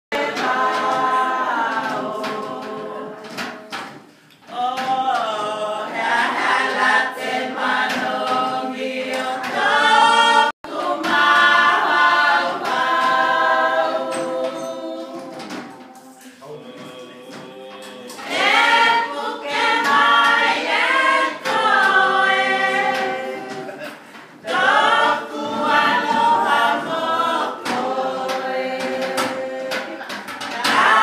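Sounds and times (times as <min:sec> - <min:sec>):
group singing: 0:00.1 - 0:31.0.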